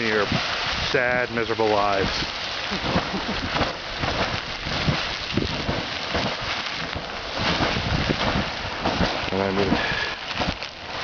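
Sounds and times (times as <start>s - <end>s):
geyser water splashing: 0.0s - 11.0s.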